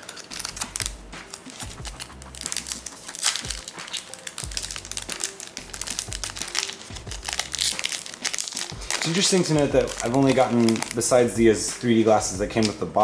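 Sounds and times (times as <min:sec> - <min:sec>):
foil wrapper crinkling: 0:00.0 - 0:11.4
background music: 0:00.0 - 0:13.0.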